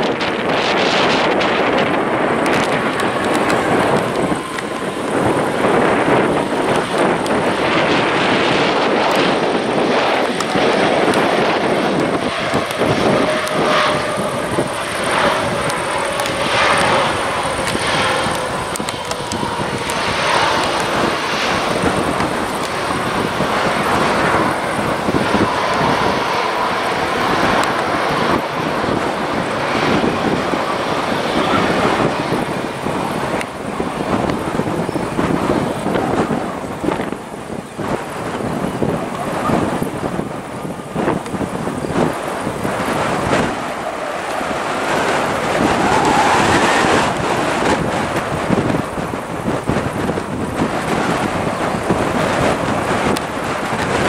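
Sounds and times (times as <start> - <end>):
jet engines whining: 0.0 - 54.0
wind buffeting microphone: 0.0 - 54.0.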